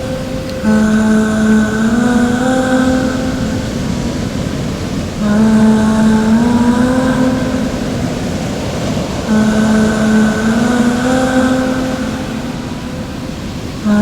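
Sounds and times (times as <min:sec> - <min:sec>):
long held pitched tone: 0:00.0 - 0:14.0
rumbling machine-like noise: 0:00.0 - 0:14.0.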